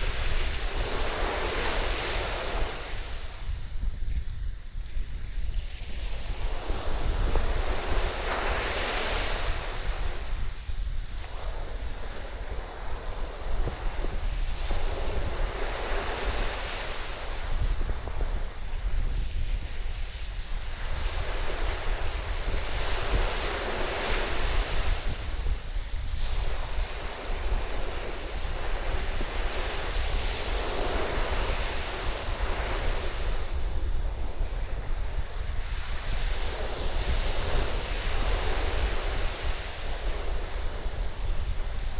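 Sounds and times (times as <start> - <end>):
waves breaking on sand: 0.0 - 3.9, 5.4 - 41.9
wind buffeting microphone: 0.0 - 41.9.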